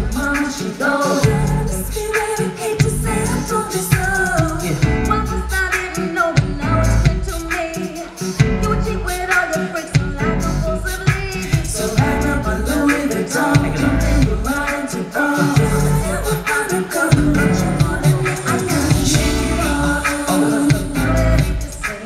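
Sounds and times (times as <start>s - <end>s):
live pop band playing: 0.0s - 22.0s
woman singing: 0.0s - 22.0s.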